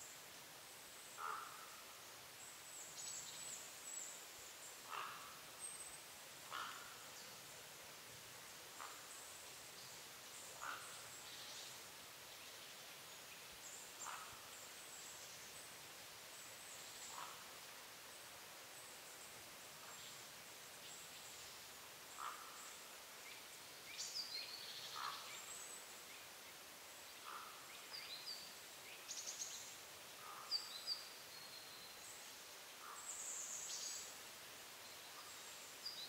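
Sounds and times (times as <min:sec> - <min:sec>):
outdoor hiss: 0:00.0 - 0:36.0.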